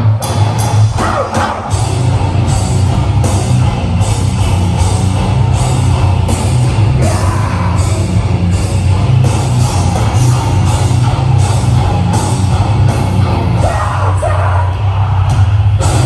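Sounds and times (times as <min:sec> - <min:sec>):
heavy rock band playing: 0:00.0 - 0:16.0.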